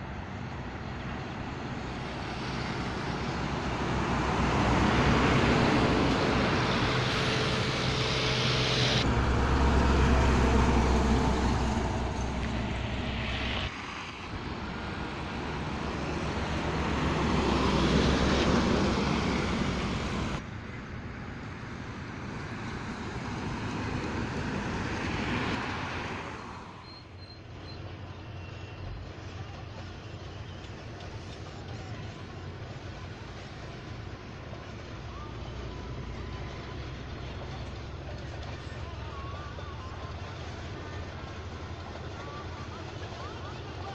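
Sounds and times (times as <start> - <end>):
diesel trucks passing: 0.0 - 43.9
distant engine rumble: 0.0 - 43.9.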